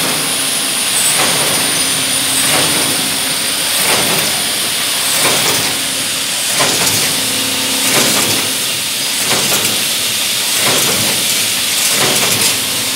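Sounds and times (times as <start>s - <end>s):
machine hiss: 0.0s - 12.9s
machine tooling clack: 0.0s - 12.9s.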